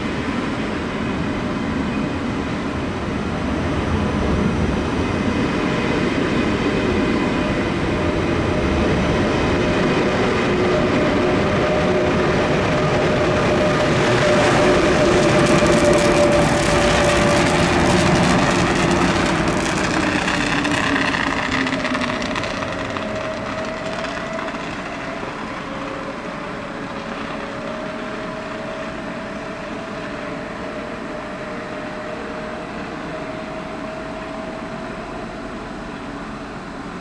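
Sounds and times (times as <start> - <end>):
electric locomotive traction whine: 0.0 - 37.0.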